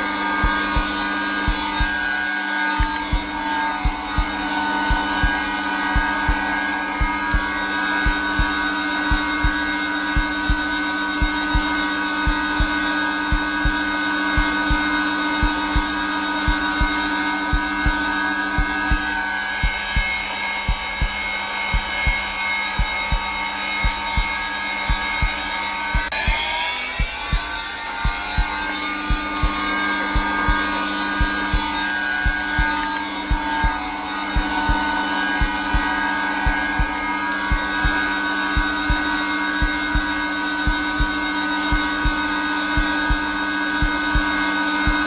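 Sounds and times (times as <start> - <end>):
heartbeat thumps: 0.0 - 45.0
vacuum cleaner running: 0.0 - 45.0.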